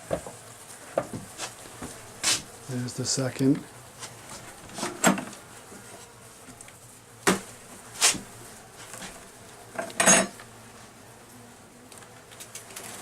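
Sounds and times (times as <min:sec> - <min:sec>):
hive parts clacking: 0:00.0 - 0:10.6
faint honeybee hum: 0:00.0 - 0:13.0.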